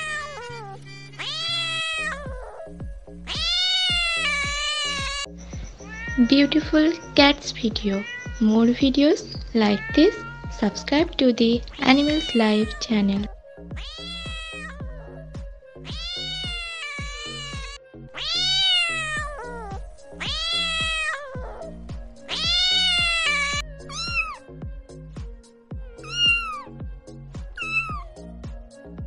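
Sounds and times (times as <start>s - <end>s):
cats meowing: 0.0s - 24.4s, 26.0s - 26.7s, 27.6s - 28.2s
music with low beat: 1.8s - 29.0s.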